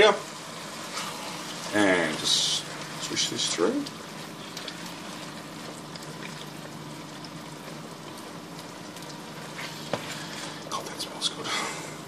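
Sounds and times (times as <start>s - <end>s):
food sizzling in a frying pan: 0.0s - 10.6s.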